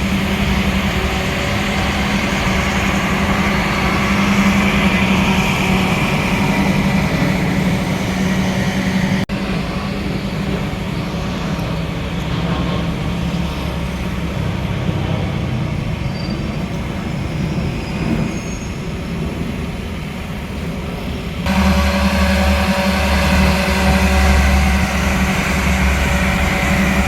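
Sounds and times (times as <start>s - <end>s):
train carriage rumble: 0.0s - 27.0s.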